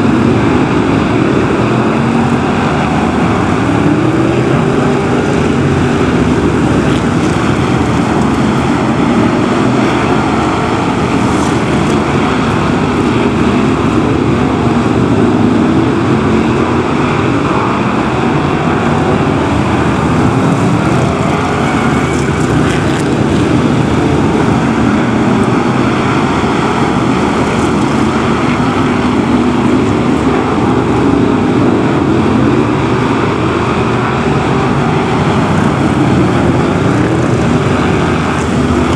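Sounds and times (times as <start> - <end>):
race car engines running hard: 0.0 - 38.9.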